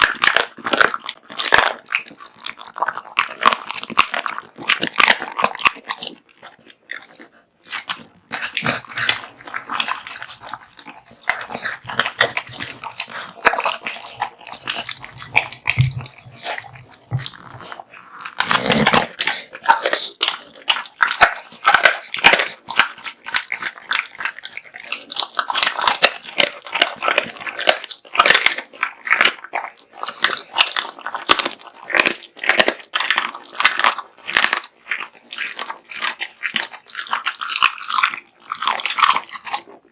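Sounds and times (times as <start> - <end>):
dog crunching bones: 0.0 - 39.9.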